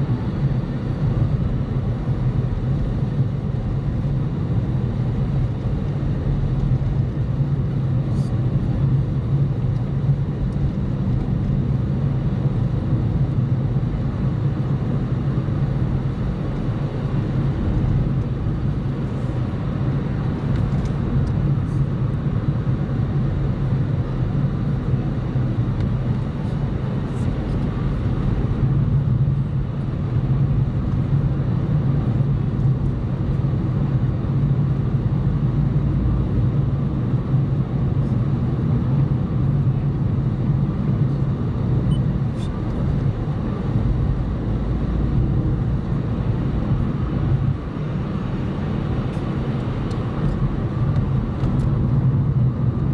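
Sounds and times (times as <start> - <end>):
car engine and road drone: 0.0 - 52.9.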